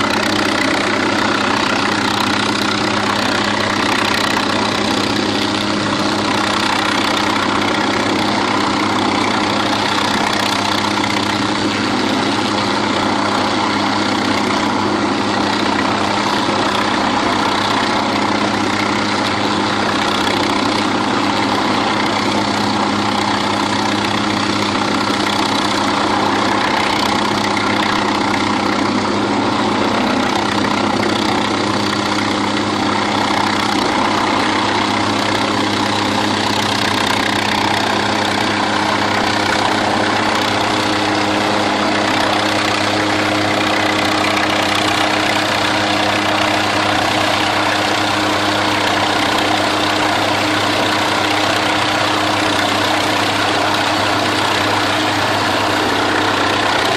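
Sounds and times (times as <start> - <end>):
helicopter engine and rotor hum: 0.0 - 56.9.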